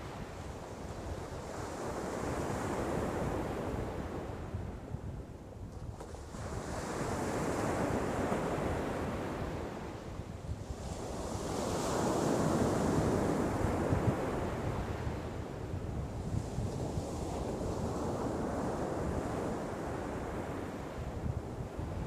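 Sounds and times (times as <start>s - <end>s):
ocean waves washing onto beach: 0.0s - 5.0s, 5.8s - 22.0s
wind rumbling on microphone: 0.0s - 22.0s.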